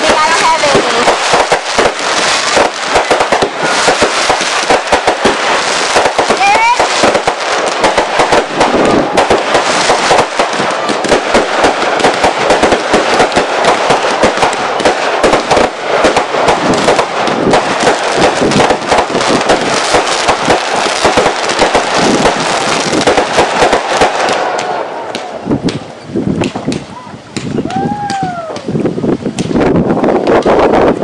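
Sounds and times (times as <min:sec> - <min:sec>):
fireworks bangs and pops: 0:00.0 - 0:31.0.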